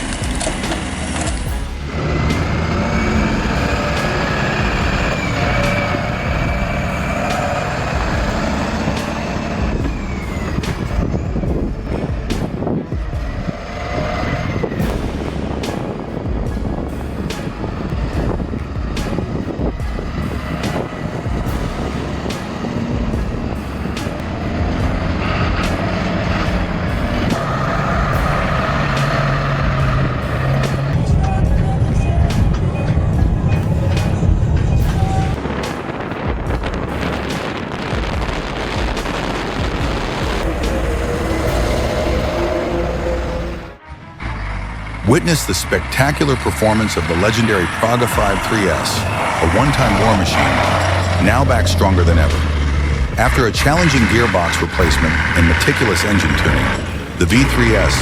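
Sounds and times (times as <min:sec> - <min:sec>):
heavy truck engine running: 0:00.0 - 0:58.0.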